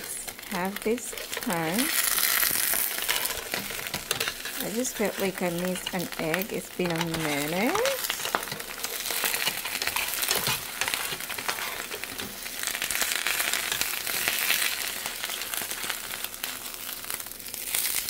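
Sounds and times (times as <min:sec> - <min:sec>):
egg sizzling in a pan: 0:00.0 - 0:18.0.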